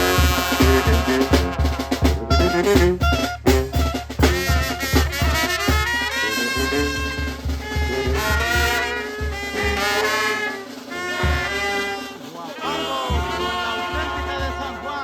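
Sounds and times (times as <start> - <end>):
bass drum beat: 0.0 - 10.0, 12.7 - 15.0
brass band playing: 0.0 - 15.0.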